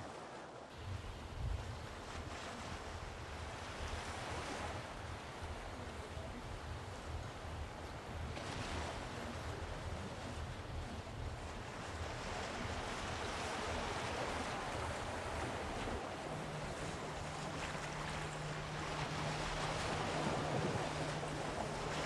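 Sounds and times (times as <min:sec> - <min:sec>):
lake water rushing: 0:00.0 - 0:22.0
low steady hum: 0:00.8 - 0:22.0.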